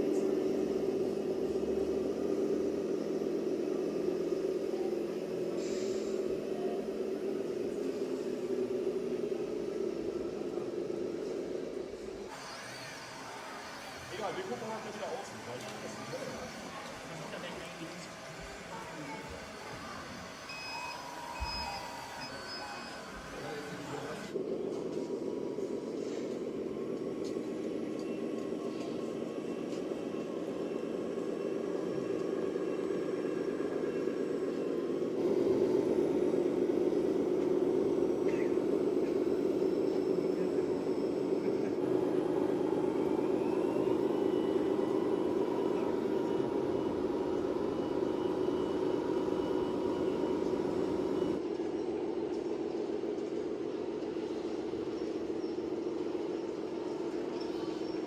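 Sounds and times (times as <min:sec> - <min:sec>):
simulated diesel engine sound: 0:00.0 - 0:58.0.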